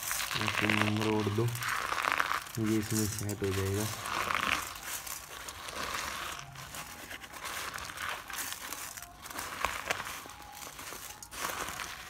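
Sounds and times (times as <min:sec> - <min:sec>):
hands crushing dry flatbread: 0:00.0 - 0:12.0.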